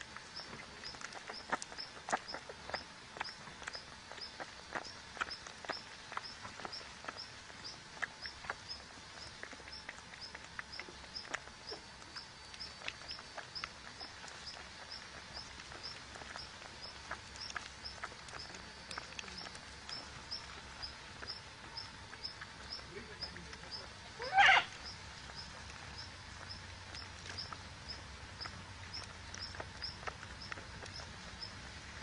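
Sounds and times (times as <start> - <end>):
bird chirping: 0.3 - 32.0.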